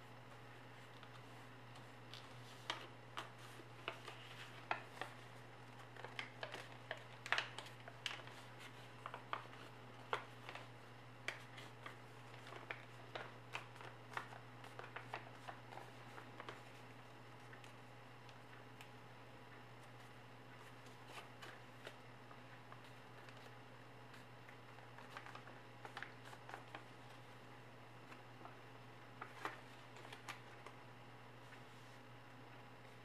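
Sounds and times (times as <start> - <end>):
low steady hum: 0.0 - 33.0
paper crinkling and crackling: 0.3 - 19.0, 19.8 - 32.1.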